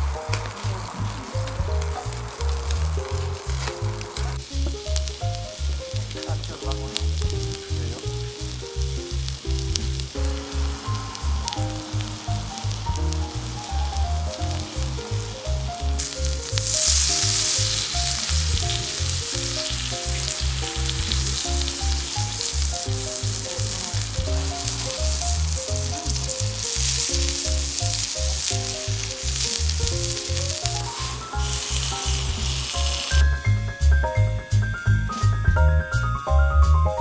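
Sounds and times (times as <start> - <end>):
steak sizzling on salt plate: 0.0 - 33.2
music with bass beat: 0.0 - 37.0.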